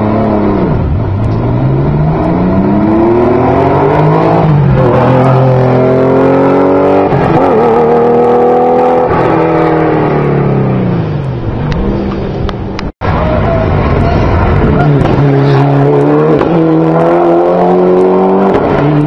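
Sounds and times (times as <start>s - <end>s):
race car accelerating hard: 0.0s - 19.0s.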